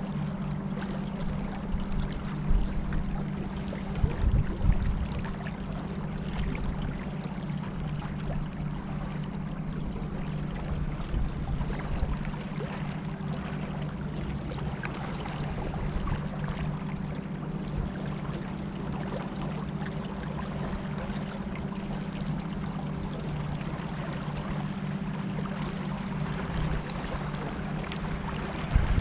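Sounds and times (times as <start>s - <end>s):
boat engine humming: 0.0s - 29.0s
water rushing past hull: 0.0s - 29.0s.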